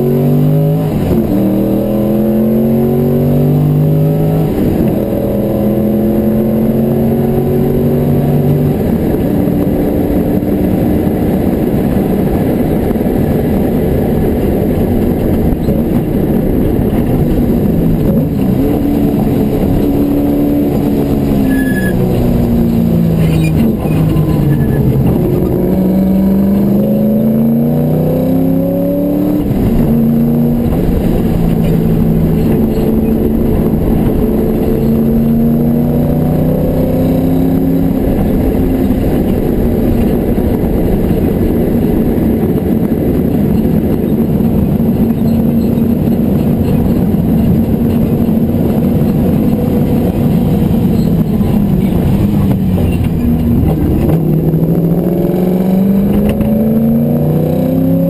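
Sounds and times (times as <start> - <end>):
car engine at high revs: 0.0 - 58.0
wind and road noise: 0.0 - 58.0
gear change: 8.7 - 58.0.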